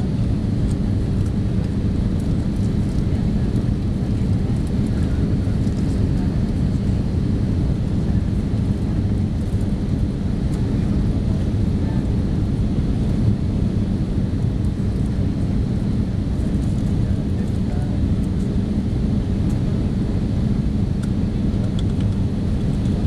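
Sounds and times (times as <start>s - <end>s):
airliner cabin engine rumble: 0.0s - 23.0s
faint hum: 0.0s - 23.0s.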